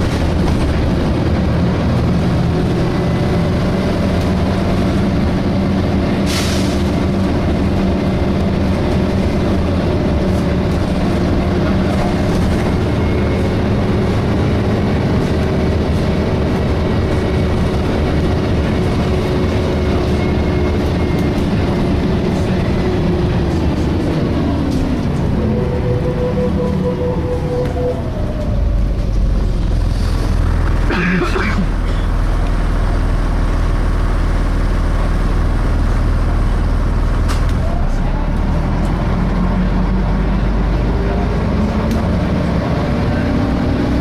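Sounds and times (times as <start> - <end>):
bus diesel engine running: 0.0 - 44.0.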